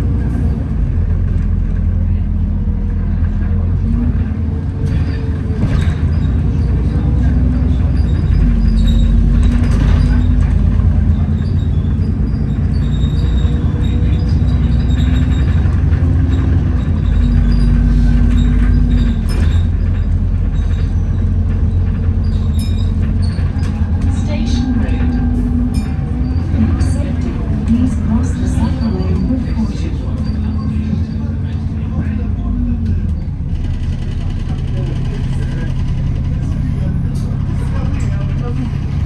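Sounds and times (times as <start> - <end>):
bus engine drone: 0.0 - 39.0.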